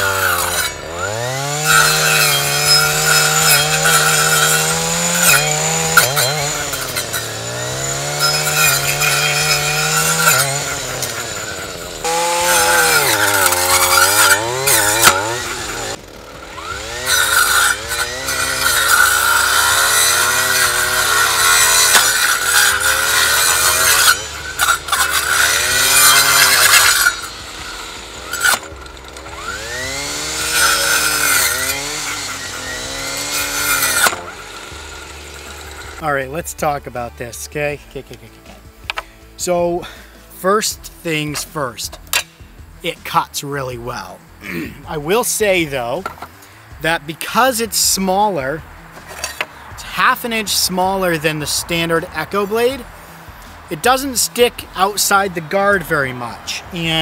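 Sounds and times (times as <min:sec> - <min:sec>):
trimmer engine revving: 0:00.0 - 0:37.0, 0:42.8 - 0:57.0
saw blade cutting logs: 0:00.0 - 0:57.0.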